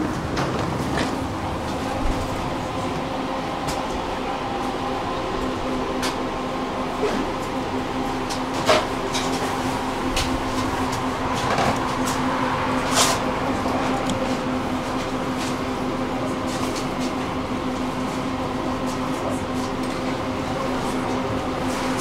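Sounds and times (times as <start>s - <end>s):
tram running hum: 0.0s - 22.0s.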